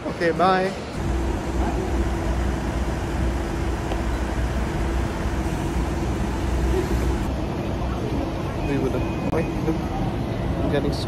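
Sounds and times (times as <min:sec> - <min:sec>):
idling vehicle engines and traffic: 0:00.0 - 0:11.0.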